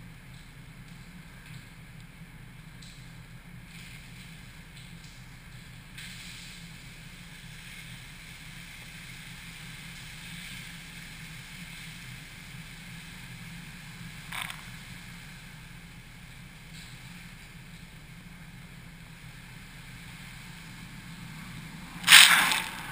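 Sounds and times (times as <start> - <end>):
low hum: 0.0 - 22.9
high-pressure water jets spraying: 3.7 - 22.9.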